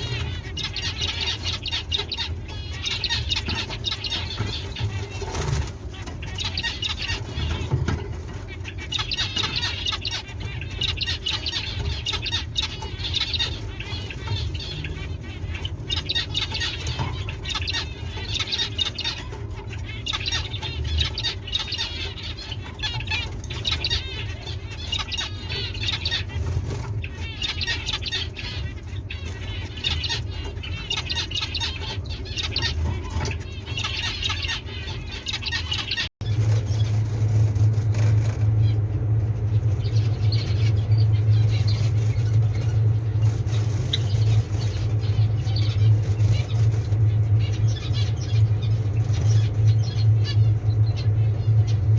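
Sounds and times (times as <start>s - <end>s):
small birds chirping: 0.0s - 51.9s
steady low hum: 0.0s - 51.9s.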